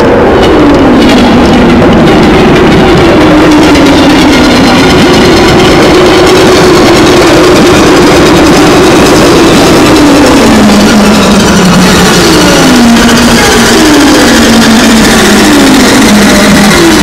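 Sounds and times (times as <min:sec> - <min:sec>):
distorted synthesizer noise: 0:00.0 - 0:17.0
low droning synth tone: 0:00.0 - 0:17.0.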